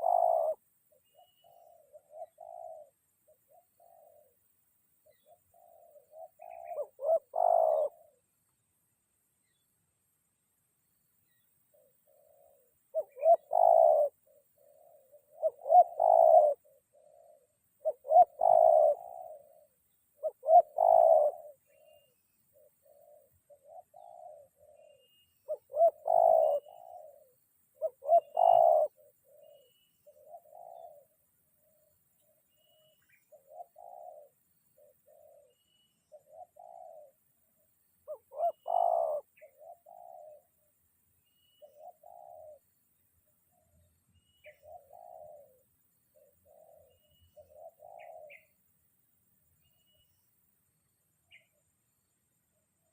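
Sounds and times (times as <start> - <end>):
doves cooing: 0.0 - 8.3, 11.7 - 40.8, 41.5 - 43.8, 44.4 - 48.6.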